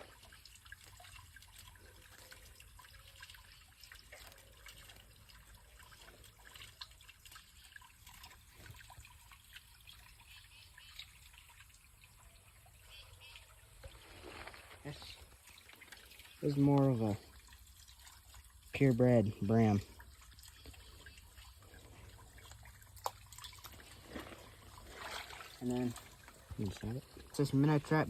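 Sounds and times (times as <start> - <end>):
creek water trickling: 0.0 - 28.0
water drips: 0.0 - 28.0.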